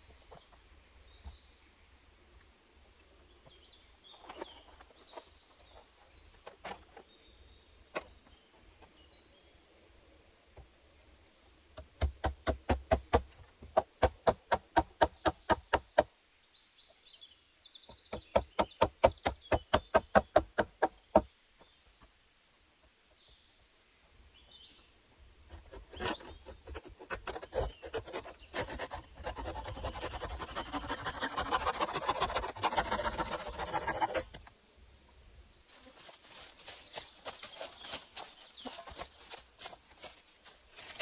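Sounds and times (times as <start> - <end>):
birds chirping faintly: 0.0 - 41.0.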